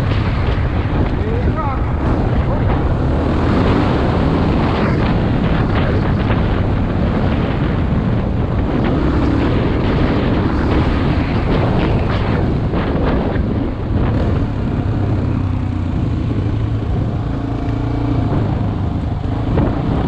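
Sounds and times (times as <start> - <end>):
motorcycle engine running: 0.0 - 20.0
wind rushing over microphone: 0.0 - 20.0.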